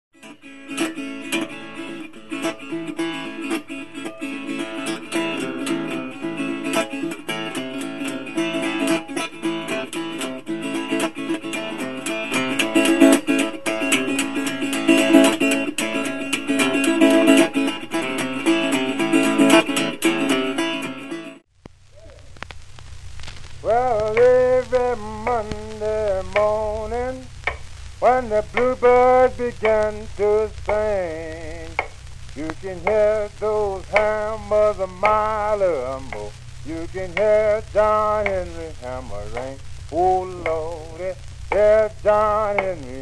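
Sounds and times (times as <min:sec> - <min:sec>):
acoustic guitar music: 0:00.2 - 0:21.5, 0:23.6 - 0:43.0.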